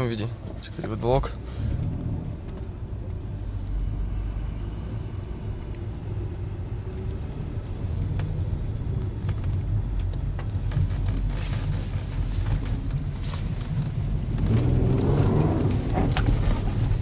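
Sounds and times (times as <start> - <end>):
engine and drivetrain rumble: 0.0 - 17.0.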